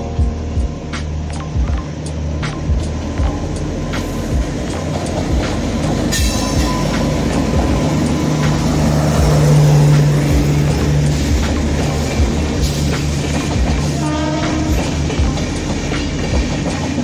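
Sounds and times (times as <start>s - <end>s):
generator car hum: 0.0s - 17.0s
train rumble: 0.0s - 17.0s
wheels clicking over rail joints: 0.0s - 17.0s.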